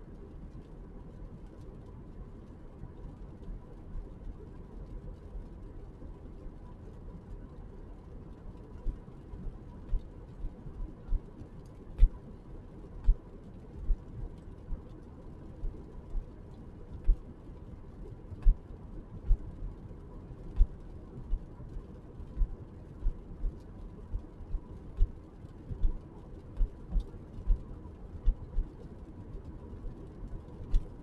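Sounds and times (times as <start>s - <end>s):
raindrops hitting microphone: 0.0s - 31.0s
steady low rumble: 0.0s - 31.0s.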